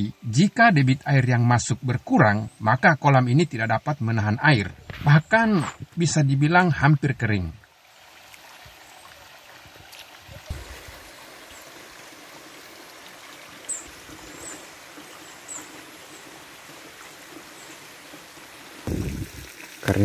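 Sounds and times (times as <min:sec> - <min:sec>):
water trickling into pond: 0:00.0 - 0:20.0.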